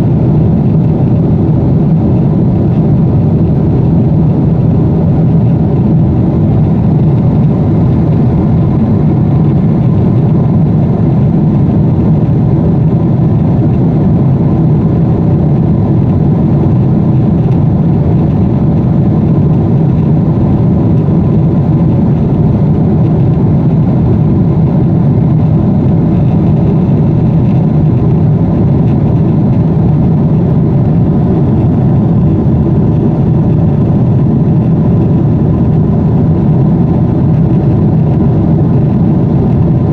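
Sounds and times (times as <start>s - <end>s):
faint steady hum: 0.0s - 39.9s
jet airliner cabin noise: 0.0s - 39.9s.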